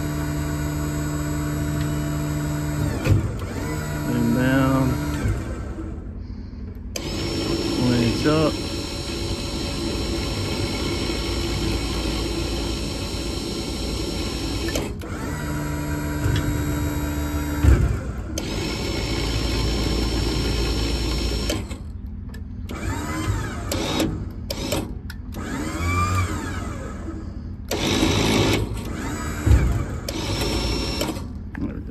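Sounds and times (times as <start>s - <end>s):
crane motor whine: 0.0s - 31.6s.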